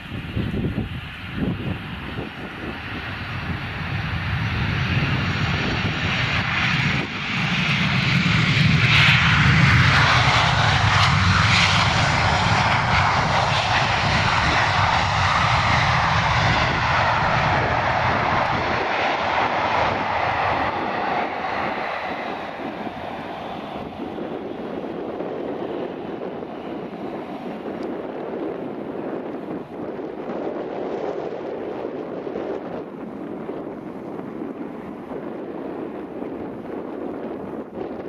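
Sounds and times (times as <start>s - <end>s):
jet engines running loudly: 0.0s - 38.0s.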